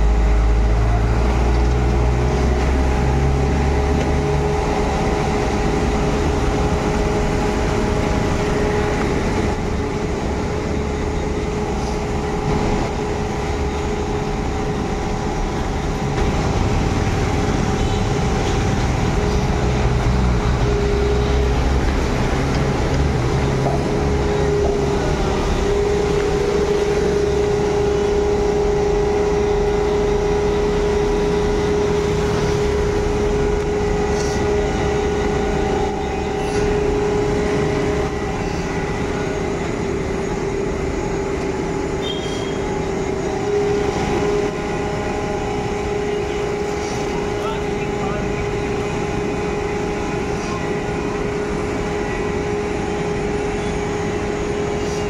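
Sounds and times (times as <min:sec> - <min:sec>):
engine rumble: 0:00.0 - 0:55.0
hydraulic whine: 0:00.0 - 0:55.0.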